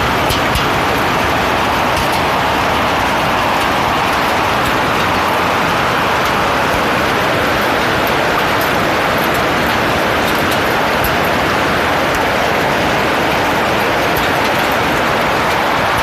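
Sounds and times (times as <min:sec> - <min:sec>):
hailstones clicking: 0:00.0 - 0:16.0
heavy hail falling: 0:00.0 - 0:16.0.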